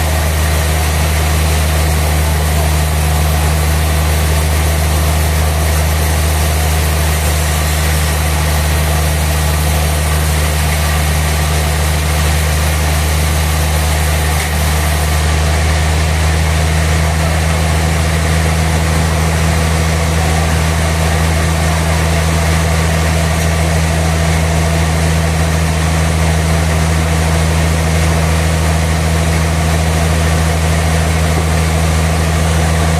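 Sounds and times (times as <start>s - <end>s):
sawmill machinery drone: 0.0s - 32.9s.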